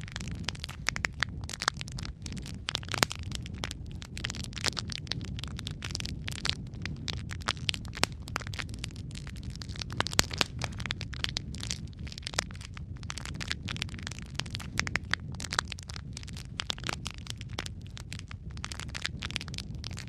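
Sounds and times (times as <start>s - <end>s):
burning wood crackling and popping: 0.0s - 20.0s
low rumble of flames: 0.0s - 20.0s.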